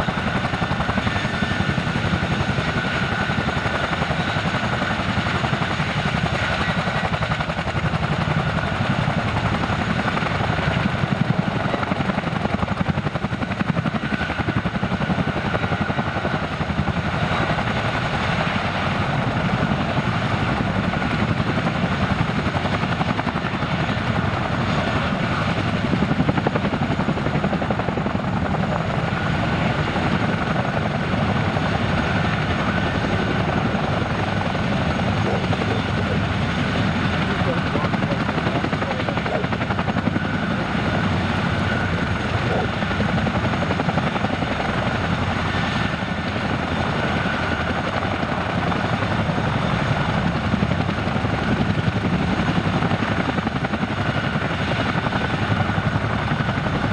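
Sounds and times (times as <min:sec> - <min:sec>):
helicopter rotor beat: 0:00.0 - 0:56.9
turbine engine whine: 0:00.0 - 0:56.9.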